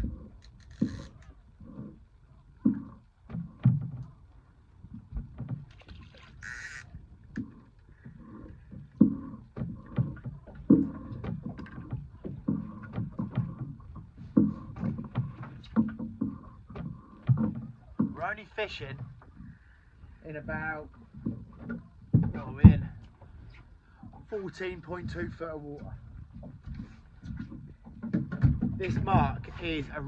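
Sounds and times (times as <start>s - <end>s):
water slapping a boat hull: 0.0s - 30.0s.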